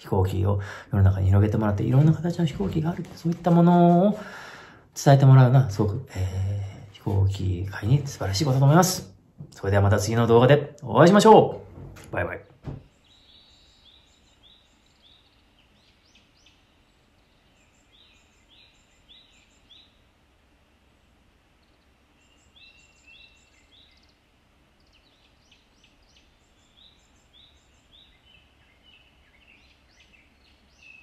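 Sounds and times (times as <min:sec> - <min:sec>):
faint birdsong: 0:00.0 - 0:31.0.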